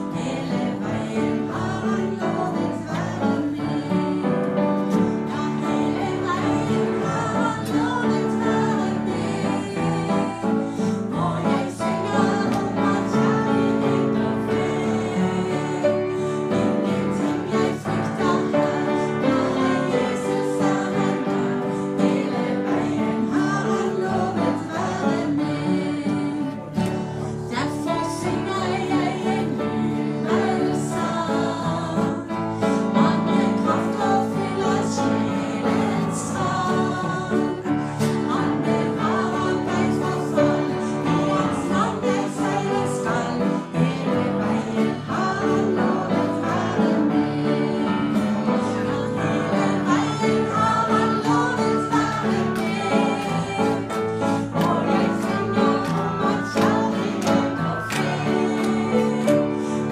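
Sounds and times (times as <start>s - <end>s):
acoustic guitar: 0.0s - 59.9s
woman singing a hymn: 0.0s - 59.9s.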